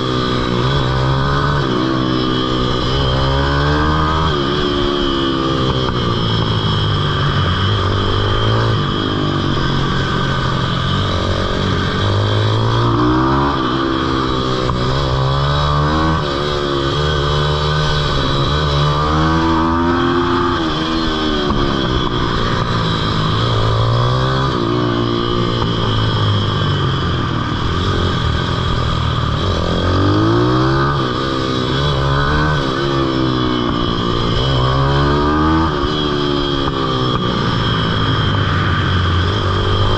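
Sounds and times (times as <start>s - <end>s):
pitbike engine revving: 0.0s - 39.9s.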